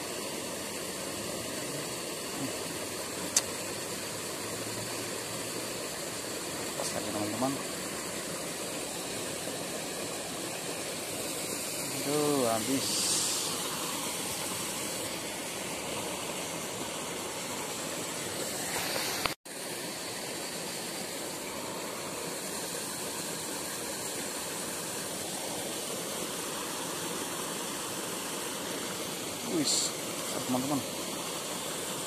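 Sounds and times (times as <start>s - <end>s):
running water hiss: 0.0s - 32.0s.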